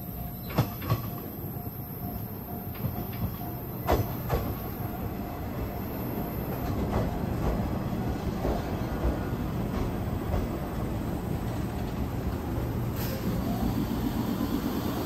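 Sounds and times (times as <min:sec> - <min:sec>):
train wheels rumbling on rail: 0:00.0 - 0:15.0
wheels clacking over rail joints: 0:00.3 - 0:15.0.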